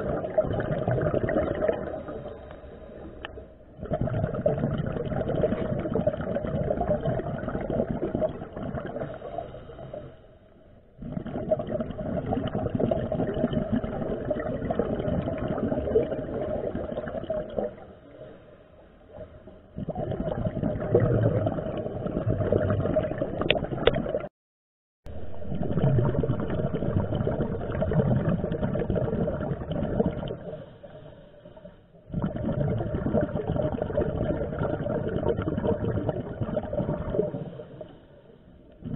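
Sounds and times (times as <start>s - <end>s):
diver regulator bubbling: 0.0s - 18.4s, 19.0s - 24.3s, 25.1s - 38.9s.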